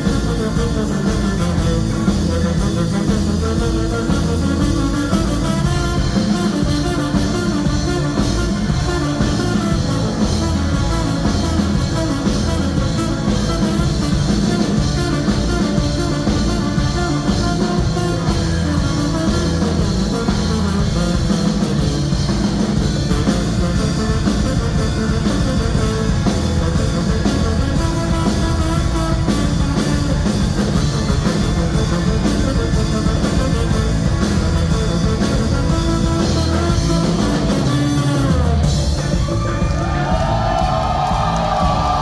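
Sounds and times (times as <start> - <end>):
drum kit: 0.0 - 42.0
live ska-punk band: 0.0 - 42.0.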